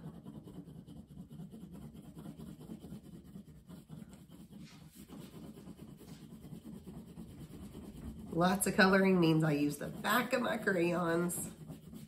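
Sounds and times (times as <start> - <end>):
crayon rubbing on paper: 0.0 - 12.0.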